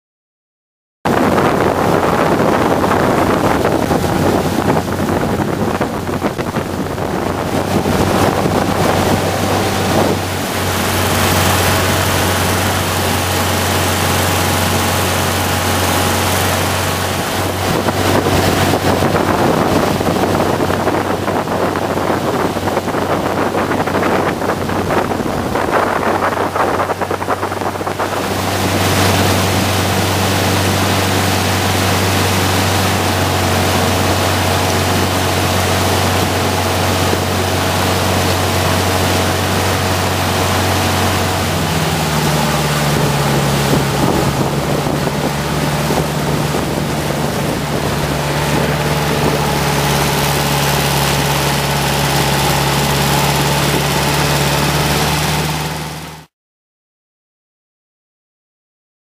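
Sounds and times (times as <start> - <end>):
boat engine running: 1.1 - 56.3
rush of water and wind: 1.1 - 56.3.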